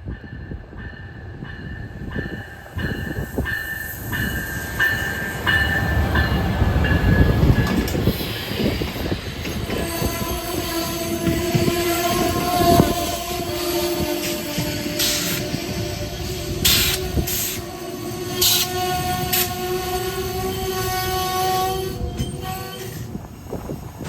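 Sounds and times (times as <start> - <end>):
train passing rumble: 0.0 - 24.0.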